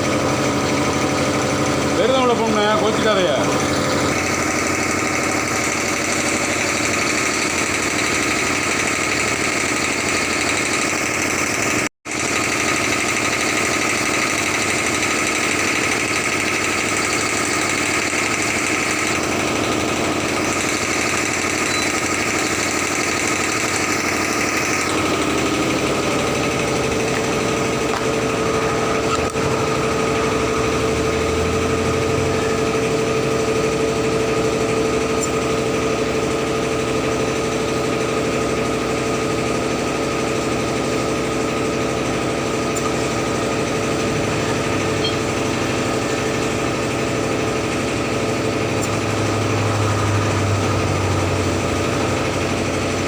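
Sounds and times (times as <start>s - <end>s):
machine running: 0.0s - 53.0s.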